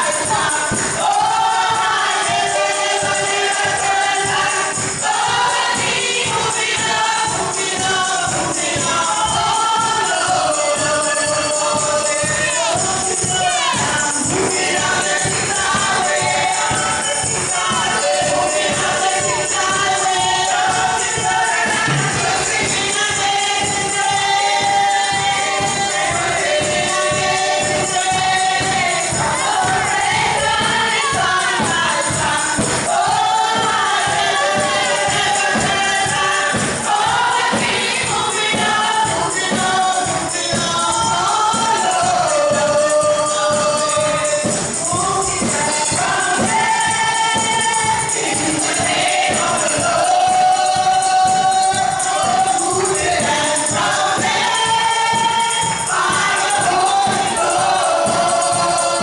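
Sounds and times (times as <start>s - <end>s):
tambourine beat: 0.0s - 59.0s
women singing gospel song: 0.0s - 59.0s.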